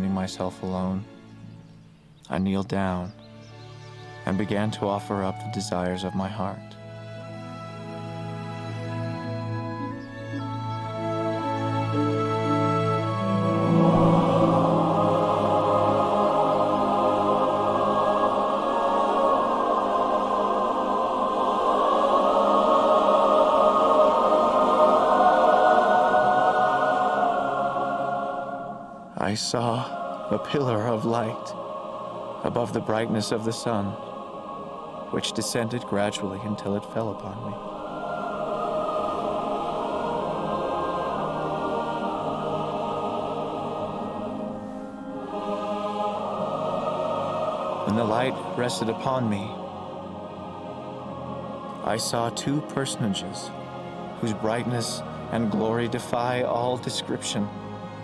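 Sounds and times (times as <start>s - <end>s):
choir singing held chords: 0.0s - 58.0s.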